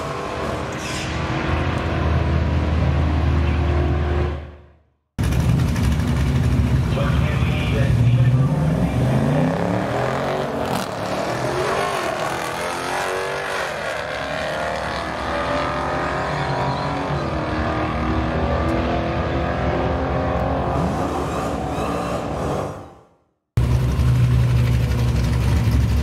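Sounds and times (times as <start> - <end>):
drag car engines at full throttle: 0.0 - 26.0.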